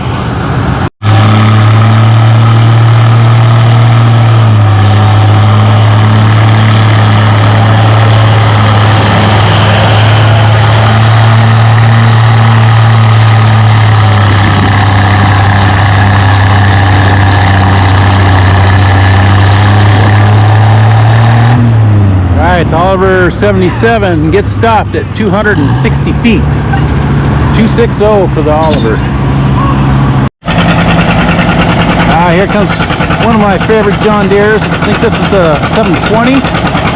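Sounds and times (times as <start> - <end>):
tractor engine under load: 0.0 - 36.9.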